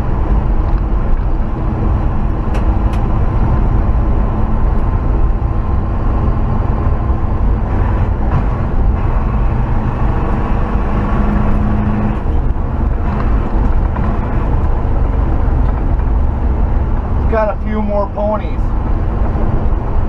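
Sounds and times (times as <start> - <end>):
pickup truck engine rumbling: 0.0 - 20.0
road noise: 0.0 - 20.0.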